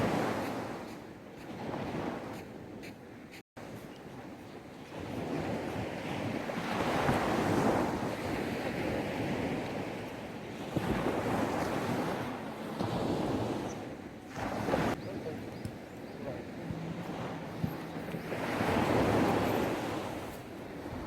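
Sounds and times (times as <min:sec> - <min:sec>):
sea waves washing on sand: 0:03.6 - 0:21.0
wind on microphone: 0:03.6 - 0:21.0.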